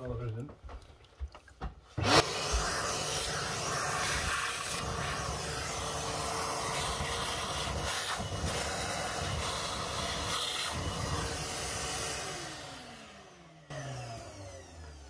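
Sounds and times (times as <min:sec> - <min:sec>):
wet vac sucking water: 0:00.0 - 0:13.2
vacuum motor whine: 0:02.0 - 0:15.0.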